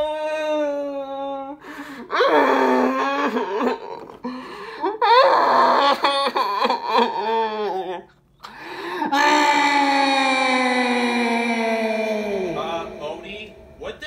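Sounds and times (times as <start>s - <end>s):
young man wailing: 0.0s - 4.1s, 5.0s - 8.0s, 9.0s - 13.7s.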